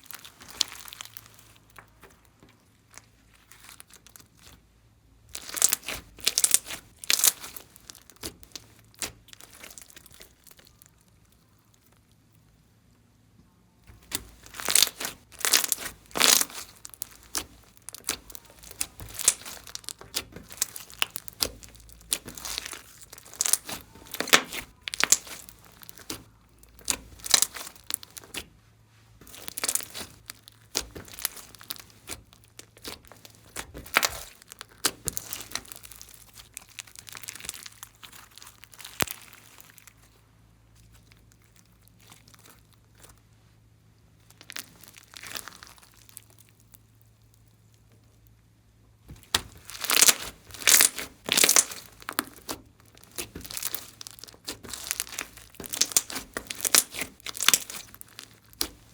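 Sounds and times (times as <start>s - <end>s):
slime squishing by hand: 0.0s - 12.7s, 13.8s - 48.4s, 49.0s - 58.9s.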